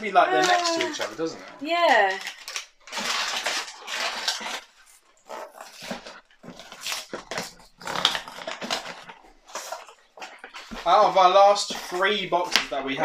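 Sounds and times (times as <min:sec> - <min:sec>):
packaging crinkling: 0:00.1 - 0:13.0
foil wrapper tearing: 0:00.2 - 0:12.8.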